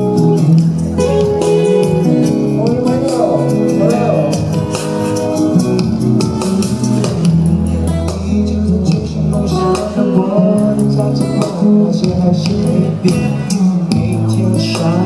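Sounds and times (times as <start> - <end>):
man singing into microphone: 0.0 - 5.2, 6.7 - 15.0
pop backing track with guitar: 0.0 - 15.0.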